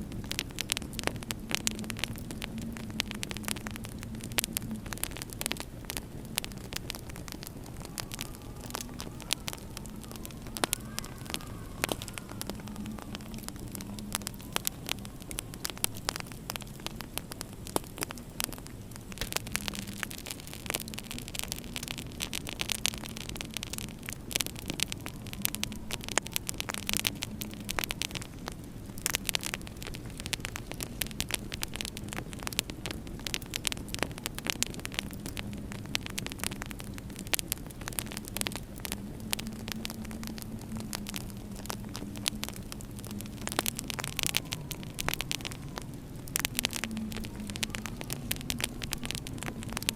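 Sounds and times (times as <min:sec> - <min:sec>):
low steady hum: 0:00.0 - 0:49.9
wood fire crackling: 0:00.0 - 0:49.9.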